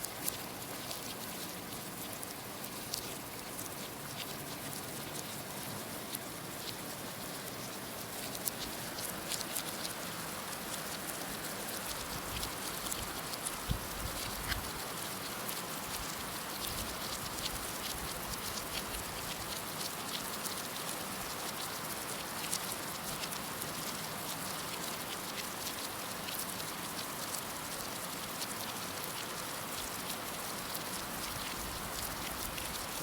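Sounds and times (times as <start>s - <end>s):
raindrops pattering on a surface: 0.0s - 33.0s.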